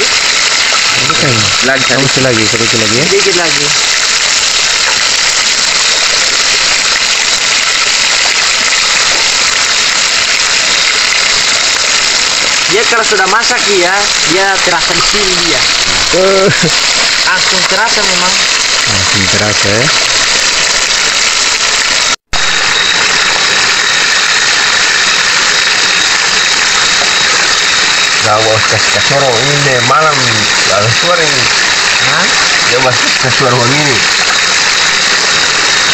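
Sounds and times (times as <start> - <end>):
shrimp deep-frying in oil: 0.0 - 35.9.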